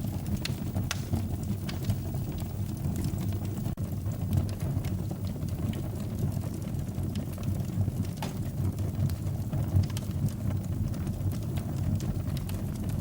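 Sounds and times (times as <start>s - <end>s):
fire crackling and popping: 0.0s - 13.0s
fire rumbling: 0.0s - 13.0s.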